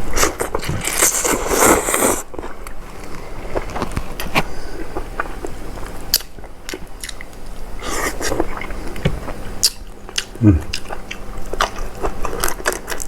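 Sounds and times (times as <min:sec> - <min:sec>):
person chewing and eating: 0:00.0 - 0:13.0.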